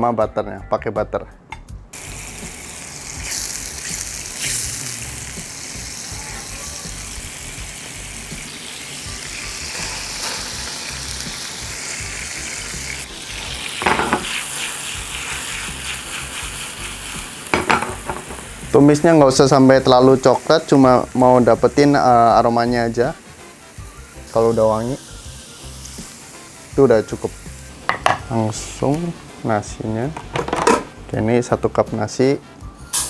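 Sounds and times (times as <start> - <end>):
butter sizzling in frying pan: 2.0 - 29.6.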